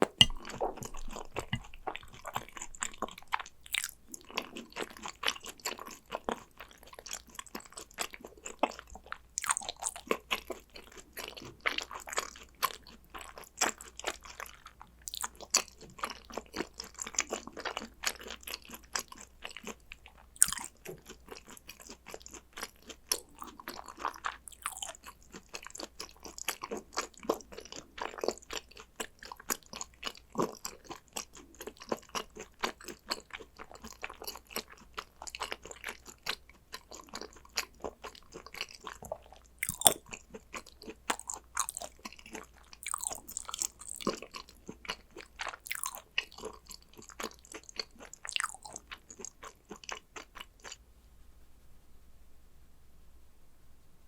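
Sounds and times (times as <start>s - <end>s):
wet crunchy chewing: 0.0s - 50.8s.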